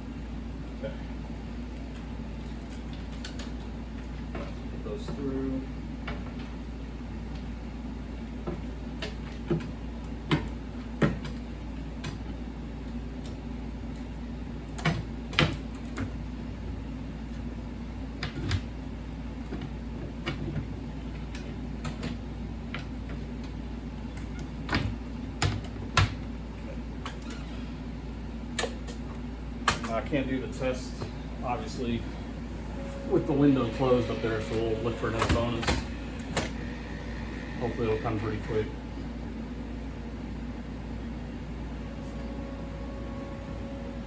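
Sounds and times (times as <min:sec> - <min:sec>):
machine low hum: 0:00.0 - 0:44.0.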